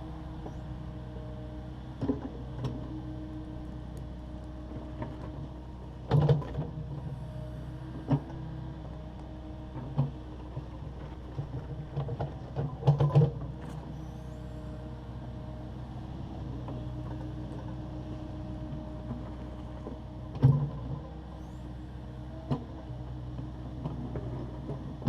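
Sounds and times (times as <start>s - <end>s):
excavator running: 0.0s - 25.0s.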